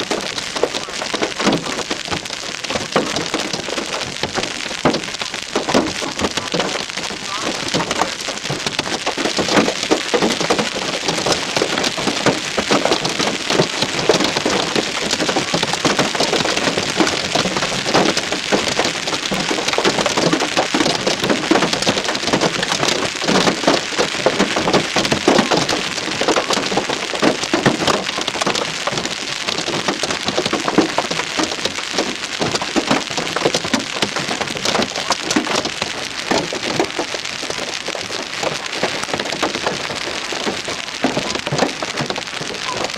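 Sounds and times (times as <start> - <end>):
hail and rain pounding on a car: 0.0 - 42.9.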